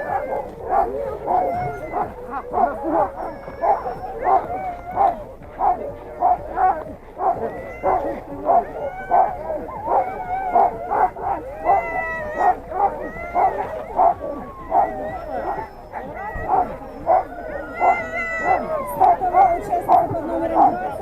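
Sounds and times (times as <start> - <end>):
dogs barking: 0.0 - 21.0
dogs howling: 0.0 - 21.0.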